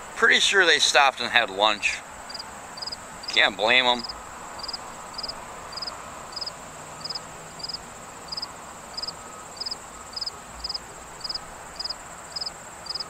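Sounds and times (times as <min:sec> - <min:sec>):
cricket chirping: 0:02.2 - 0:13.0.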